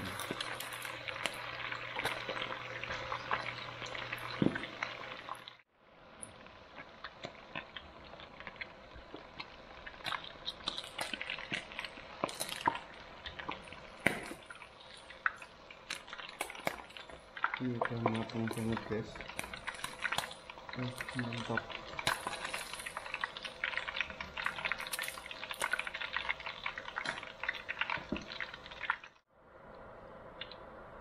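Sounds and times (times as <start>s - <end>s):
fish sizzling in hot oil: 0.0s - 29.3s.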